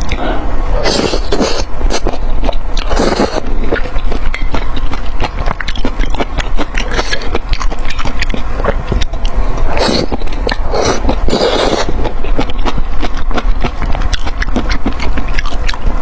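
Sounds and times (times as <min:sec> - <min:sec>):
loud mouth sound: 0:00.0 - 0:16.0
wet chewing with smacking: 0:00.8 - 0:16.0.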